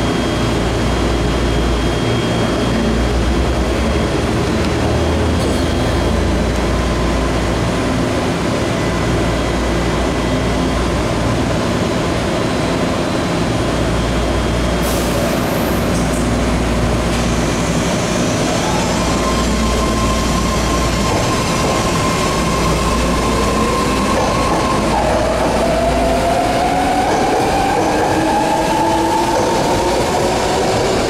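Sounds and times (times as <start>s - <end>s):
train wheel and track noise: 0.0s - 31.0s.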